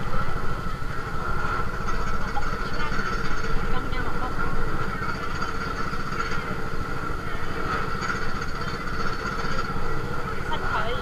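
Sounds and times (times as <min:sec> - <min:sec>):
high machine whine: 0:00.0 - 0:11.0
machine rumbling: 0:00.0 - 0:11.0.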